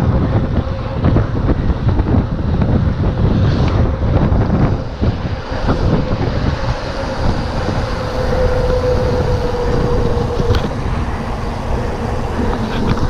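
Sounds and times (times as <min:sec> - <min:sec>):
bike tyres humming on asphalt: 0:00.0 - 0:13.0
wind buffeting microphone: 0:00.0 - 0:13.0.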